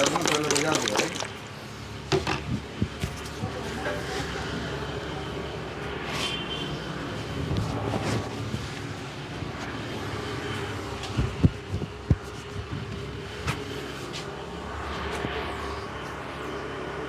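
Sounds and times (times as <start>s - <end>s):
street traffic hum: 0.0s - 17.0s.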